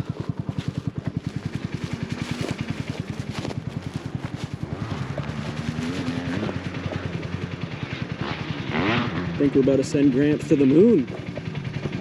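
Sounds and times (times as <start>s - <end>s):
motorbike engine idling and revving: 0.0s - 12.0s.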